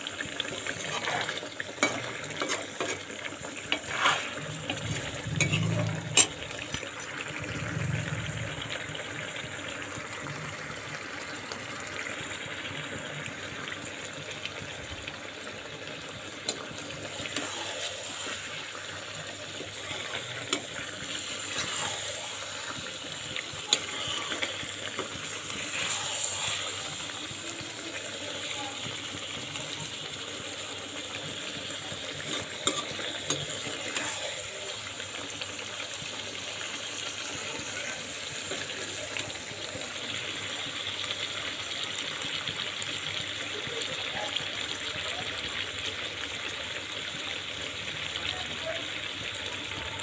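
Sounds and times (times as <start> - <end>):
food sizzling in oil: 0.0 - 50.0.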